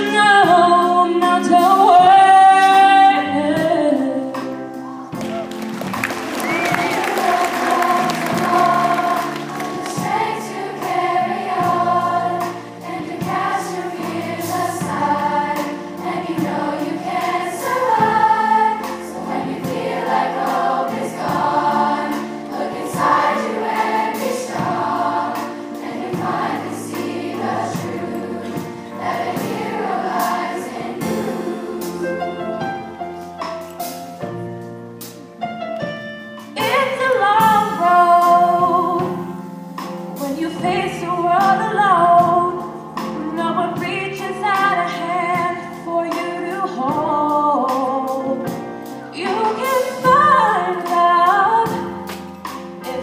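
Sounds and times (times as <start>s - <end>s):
girls' choir singing ballad: 0.0s - 33.0s, 36.6s - 39.5s, 40.2s - 53.0s
instrumental accompaniment: 0.0s - 53.0s.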